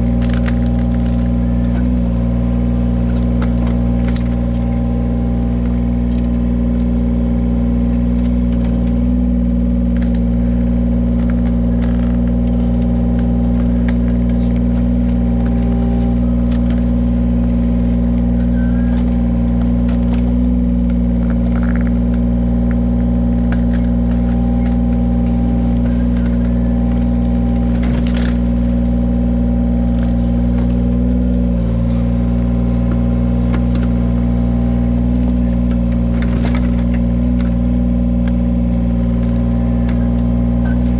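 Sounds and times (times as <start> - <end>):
log splitter engine running: 0.0 - 40.9.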